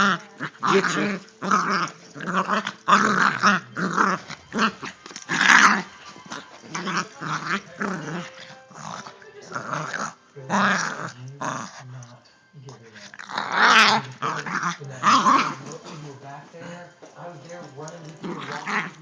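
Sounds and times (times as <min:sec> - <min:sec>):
dog growling and snarling: 0:00.0 - 0:12.1, 0:12.7 - 0:16.8, 0:17.6 - 0:19.0.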